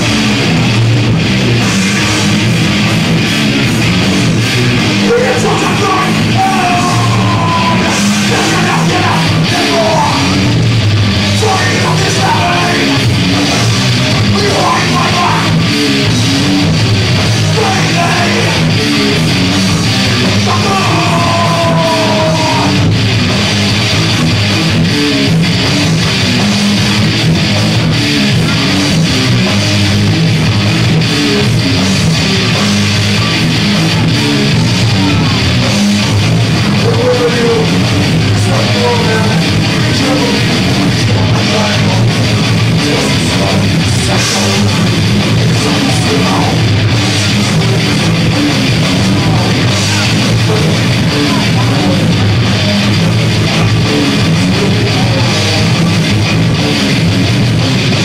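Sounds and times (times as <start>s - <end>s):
bass guitar: 0.0s - 58.0s
distorted electric guitars: 0.0s - 58.0s
drum kit: 0.0s - 58.0s.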